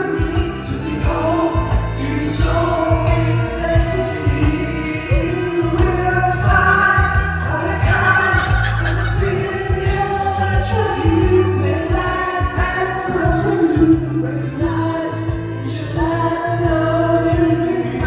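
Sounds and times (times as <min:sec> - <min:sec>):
person singing long notes: 0:00.0 - 0:18.0
steady bass beat: 0:00.0 - 0:18.0.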